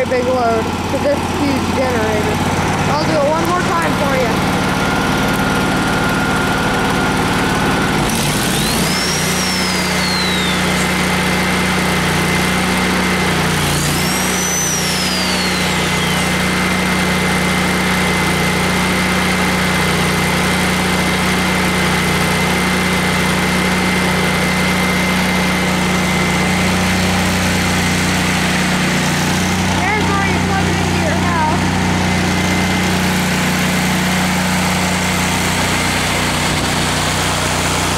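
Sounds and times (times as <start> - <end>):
generator engine running: 0.0 - 37.9.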